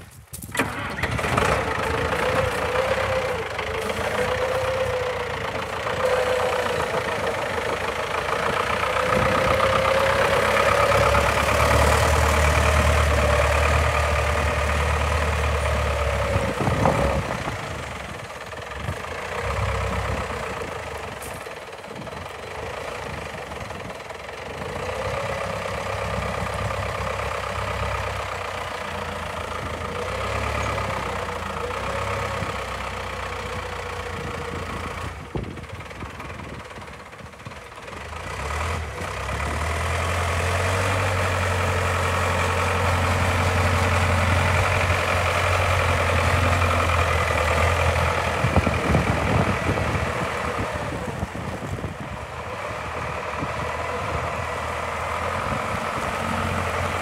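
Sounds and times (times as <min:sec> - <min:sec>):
forklift engine running: 0:00.1 - 0:57.0.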